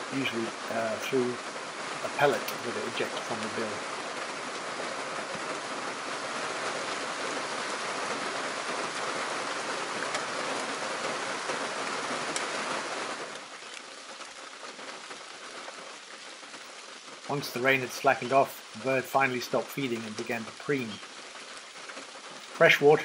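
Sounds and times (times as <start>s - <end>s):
heavy rain on water: 0.0s - 23.0s.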